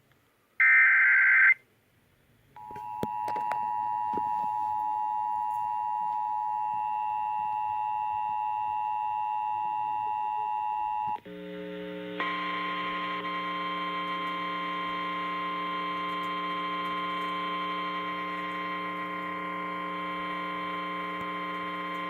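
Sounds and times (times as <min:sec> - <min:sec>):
buzzing hum of low tones: 0:02.6 - 0:22.0
steady high warning tone: 0:02.6 - 0:22.0.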